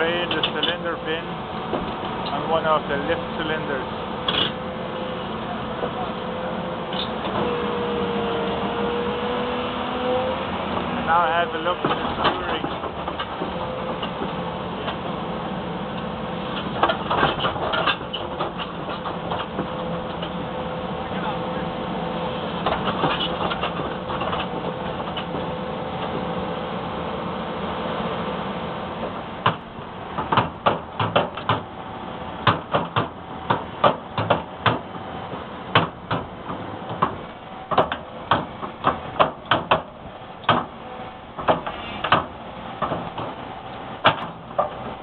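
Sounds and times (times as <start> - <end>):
excavator tracks clanking: 0.0 - 7.8, 10.7 - 21.7, 22.4 - 26.3, 29.0 - 45.0
excavator diesel engine running: 0.0 - 45.0.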